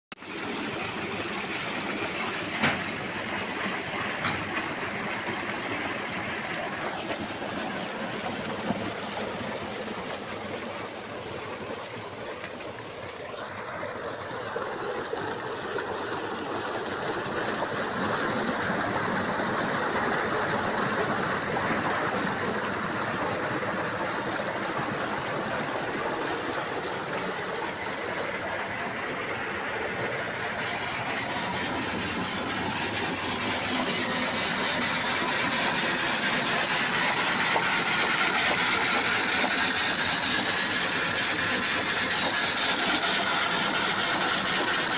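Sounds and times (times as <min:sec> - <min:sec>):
water pouring into tank: 0:00.2 - 0:44.9.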